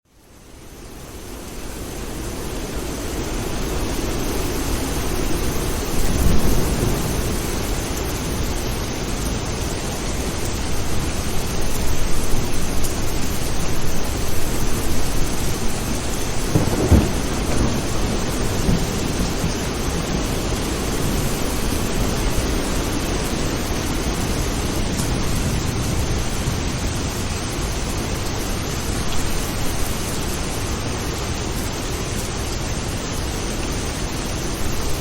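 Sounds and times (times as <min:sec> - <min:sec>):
heavy rain: 0:00.1 - 0:35.0
low thunder rolls: 0:02.6 - 0:30.8.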